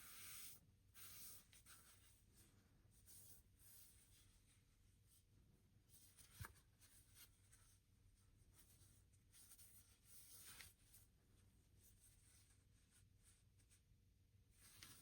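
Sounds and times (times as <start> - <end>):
soft rubbing and rustling: 0.0 - 15.0.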